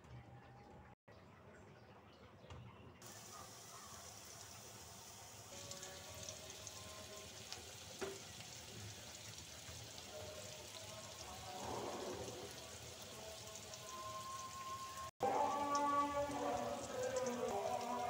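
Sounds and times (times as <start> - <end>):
onions sizzling in oil: 3.0 - 18.0.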